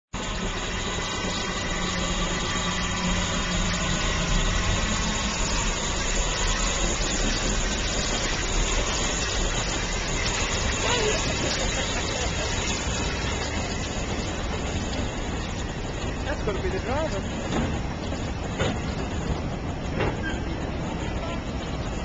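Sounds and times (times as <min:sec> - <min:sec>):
steam locomotive simmering: 0:00.1 - 0:22.0.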